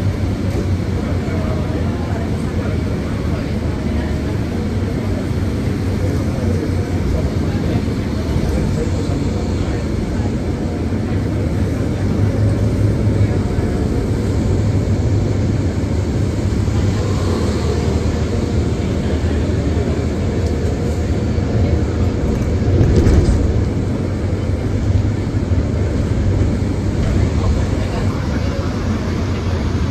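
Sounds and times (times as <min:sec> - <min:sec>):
vehicle engine and tyres rumbling: 0:00.0 - 0:29.9.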